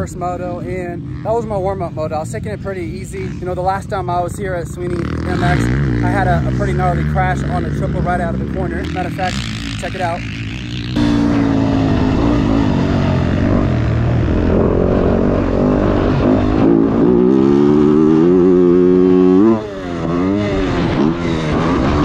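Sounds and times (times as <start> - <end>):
dirt bike engine revving: 3.0 - 22.0.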